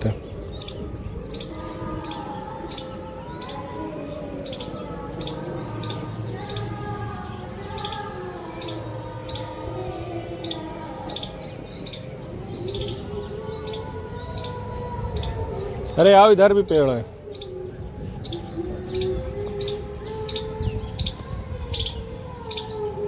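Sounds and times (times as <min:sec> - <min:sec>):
birds chirping: 0:00.0 - 0:23.0
low wavering bird calls: 0:00.0 - 0:23.0.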